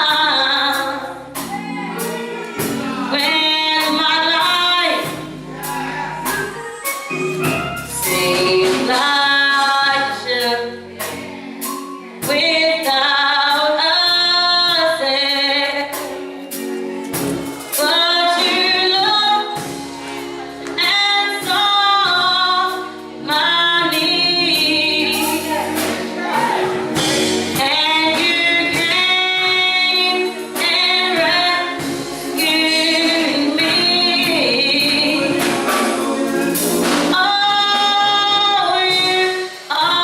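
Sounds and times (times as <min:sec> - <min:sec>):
low bass notes: 0:00.0 - 0:13.0, 0:19.6 - 0:39.2
gospel choir singing: 0:00.0 - 0:40.0
instrumental accompaniment: 0:00.0 - 0:40.0.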